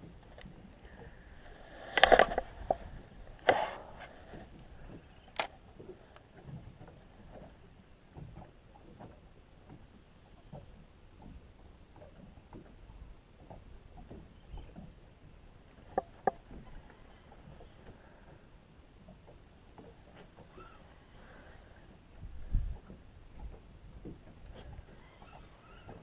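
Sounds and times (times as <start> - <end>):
waves lapping against boat hull: 0.0 - 26.0.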